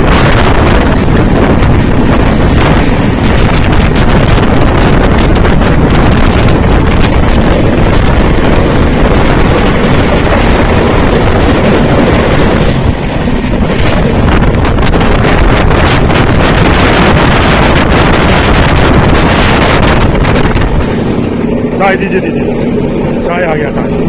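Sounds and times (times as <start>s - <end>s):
train running noise: 0.0s - 24.0s
wind rushing over microphone: 0.0s - 24.0s.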